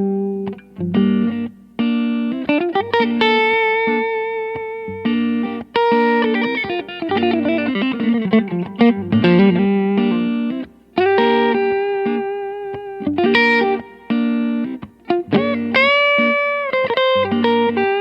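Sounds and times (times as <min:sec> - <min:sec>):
electric guitar lead lick: 0:00.0 - 0:18.0.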